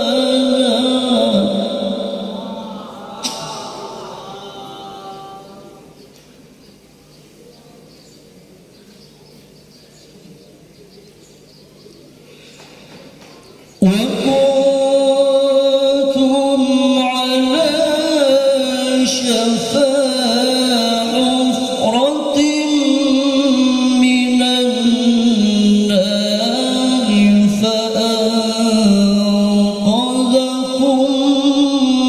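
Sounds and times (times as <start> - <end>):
man reciting in melodic chant: 0.0 - 6.1, 8.7 - 32.0.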